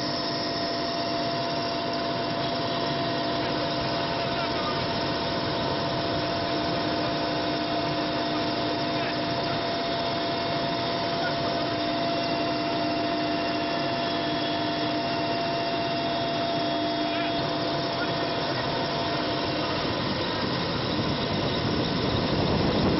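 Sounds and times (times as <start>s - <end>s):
aircraft engine and propeller drone: 0.0s - 22.9s.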